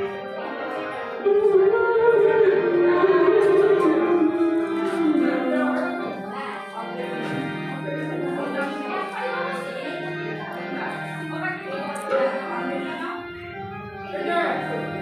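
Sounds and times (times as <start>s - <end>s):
devotional singing: 0.0s - 15.0s
musical accompaniment: 0.0s - 15.0s.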